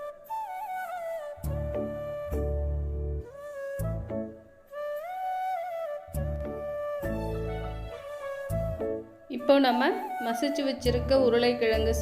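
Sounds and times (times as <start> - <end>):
flute-like melody: 0.0 - 12.0.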